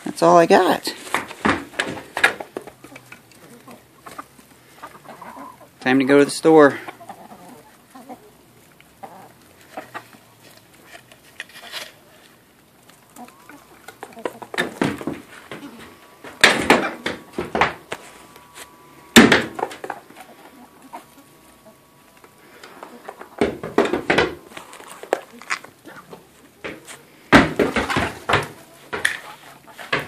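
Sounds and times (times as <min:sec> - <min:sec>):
chickens clucking: 0:00.2 - 0:30.0
rustles and knocks: 0:00.9 - 0:04.3, 0:09.0 - 0:30.0.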